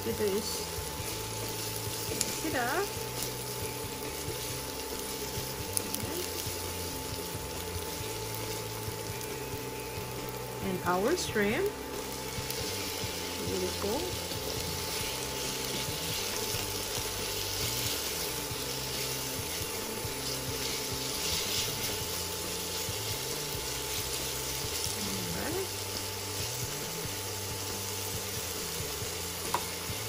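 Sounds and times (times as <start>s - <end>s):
shrimp sizzling in oil: 0.0s - 30.0s.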